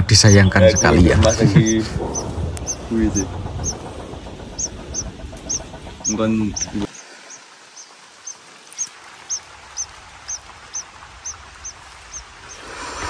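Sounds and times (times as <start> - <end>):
bird chirping: 0.0 - 13.0
faint outdoor hiss: 0.0 - 13.0.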